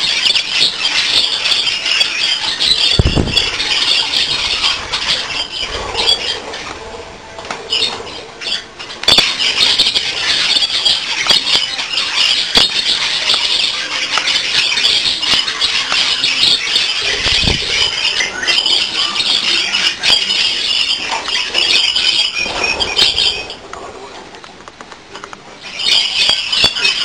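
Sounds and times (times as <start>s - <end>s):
budgerigars chattering and squawking: 0.0s - 24.0s, 25.5s - 27.0s.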